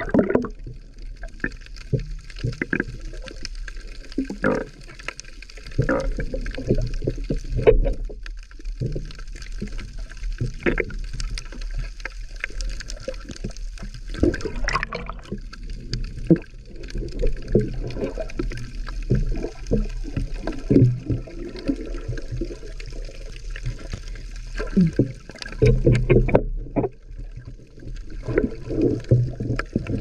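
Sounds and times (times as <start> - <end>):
bubbles: 0.0 - 30.0
water gurgling and sloshing: 0.0 - 30.0.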